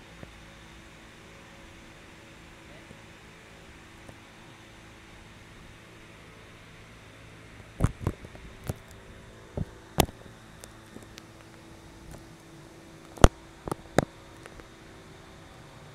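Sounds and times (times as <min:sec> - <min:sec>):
steady background hiss: 0:00.0 - 0:15.9.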